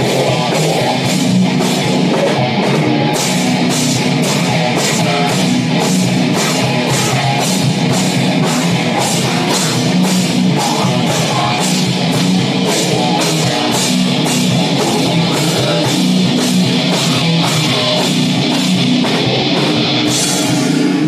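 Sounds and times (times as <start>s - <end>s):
metal band playing: 0.0s - 21.0s.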